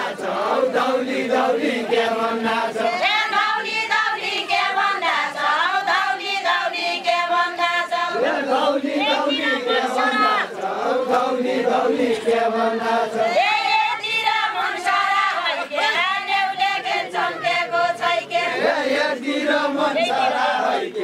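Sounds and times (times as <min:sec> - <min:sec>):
women singing in unison: 0:00.0 - 0:21.0.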